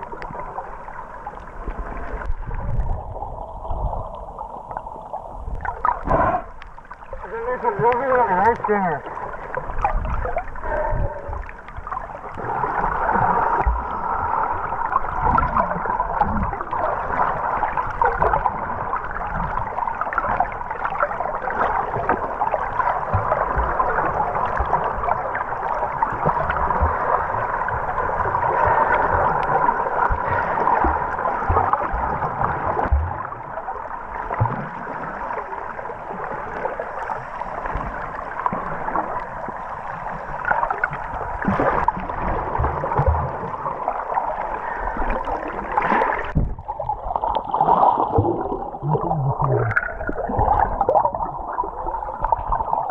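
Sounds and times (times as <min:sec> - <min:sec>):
underwater rushing water: 0:00.0 - 0:52.9.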